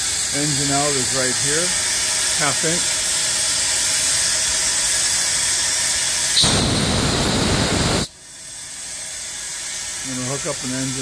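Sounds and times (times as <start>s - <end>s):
steam blasting from valve: 0.0s - 11.0s
steam hissing from boiler: 0.0s - 11.0s.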